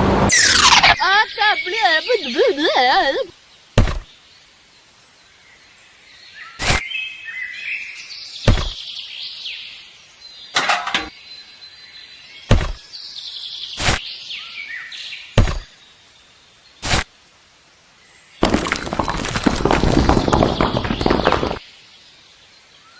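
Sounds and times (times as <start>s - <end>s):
birds chirping: 0.3s - 17.0s, 18.4s - 22.9s.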